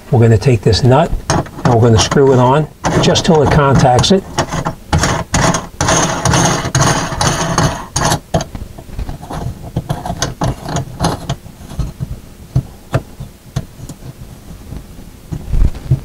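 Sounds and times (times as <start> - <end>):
rustling and scraping: 1.1 - 16.0.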